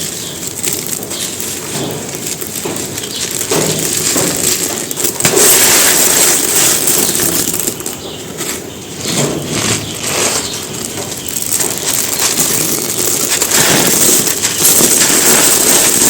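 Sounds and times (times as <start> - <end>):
cement stones crumbling: 0.0 - 16.0.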